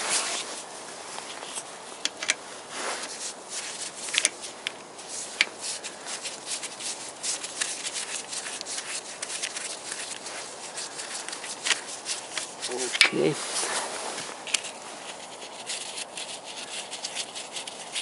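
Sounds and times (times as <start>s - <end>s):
rubbing scraping noise: 0.0s - 18.0s.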